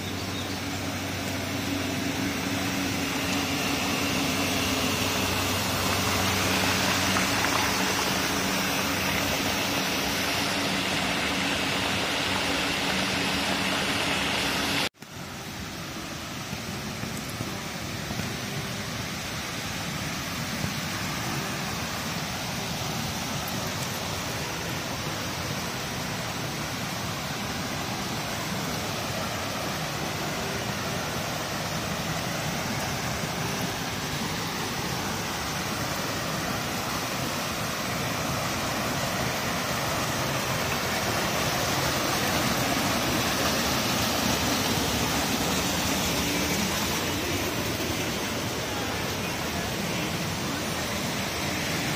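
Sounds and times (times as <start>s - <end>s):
fast-flowing water rushing: 0.0s - 51.9s.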